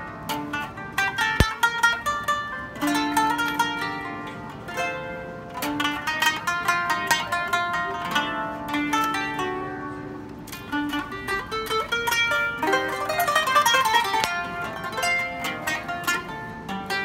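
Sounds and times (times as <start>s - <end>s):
plucked zither melody: 0.0s - 17.0s.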